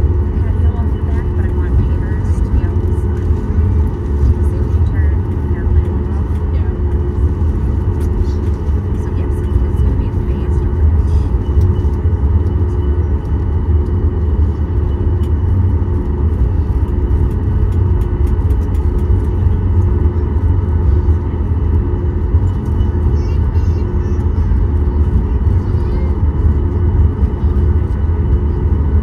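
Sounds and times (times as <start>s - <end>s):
aircraft cabin rumble: 0.0s - 29.0s
jet engine whine: 0.0s - 29.0s.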